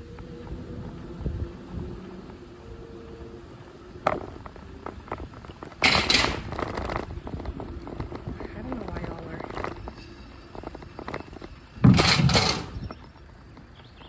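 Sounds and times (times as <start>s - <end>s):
bicycle rolling rumble: 0.0s - 14.0s.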